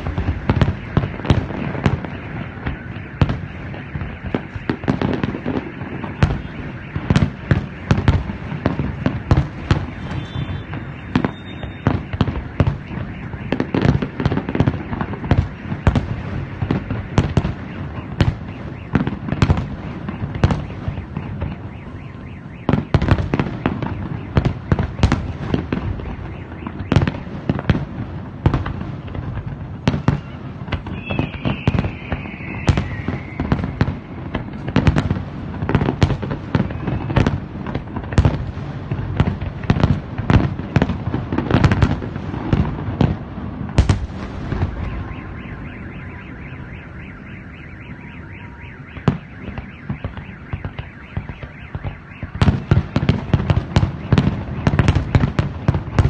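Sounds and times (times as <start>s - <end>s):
fireworks bursting with bangs: 0.0s - 56.0s.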